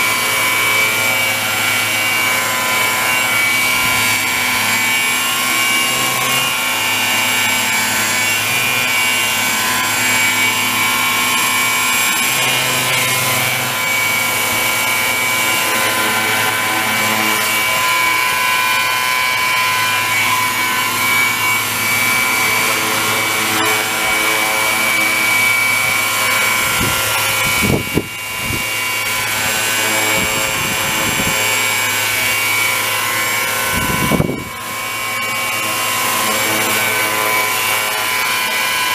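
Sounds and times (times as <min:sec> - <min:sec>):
model helicopter high-pitched whine: 0:00.0 - 0:38.9.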